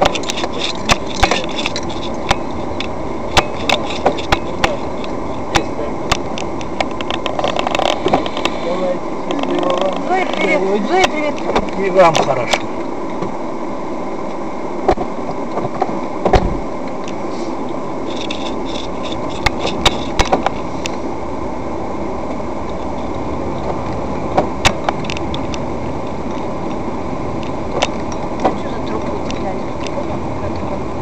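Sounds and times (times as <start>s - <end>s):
car engine and tyre hum: 0.0s - 31.0s.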